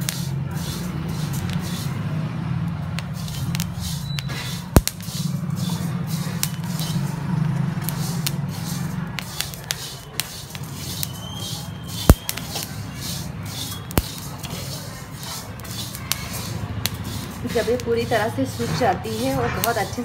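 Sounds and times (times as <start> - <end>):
seeds popping: 0.0 - 2.0, 2.7 - 20.0
seeds scraping in a pan: 0.0 - 2.2, 2.9 - 20.0.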